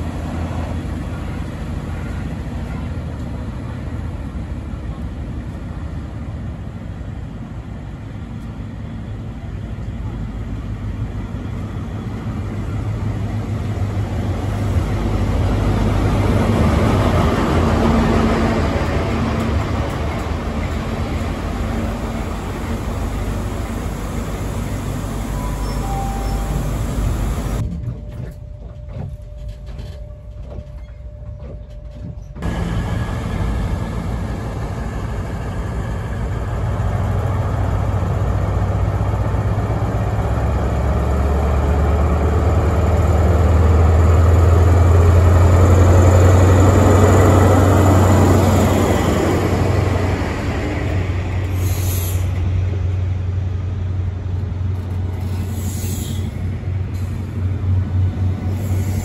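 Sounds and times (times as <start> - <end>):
diesel train engine drone: 0.0 - 59.0
rail noise: 0.0 - 59.0.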